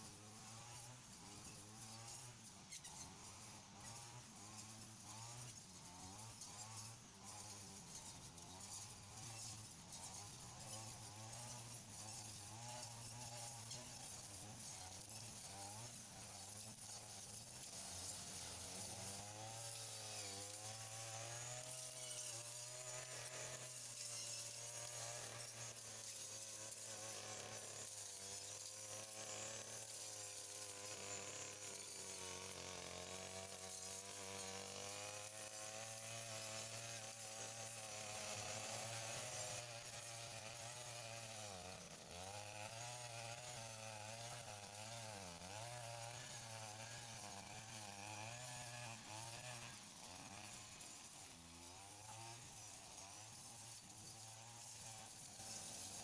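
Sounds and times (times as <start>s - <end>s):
small two-stroke engine running: 0.0s - 56.0s.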